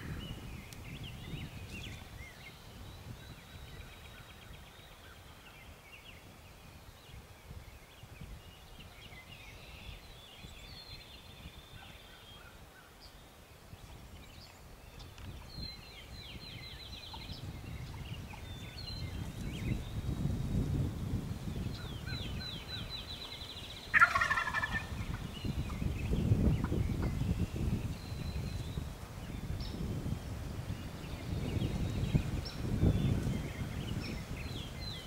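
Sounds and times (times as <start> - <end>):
birds chirping and trilling: 0.0 - 35.0
wind rumble on microphone: 0.0 - 35.0.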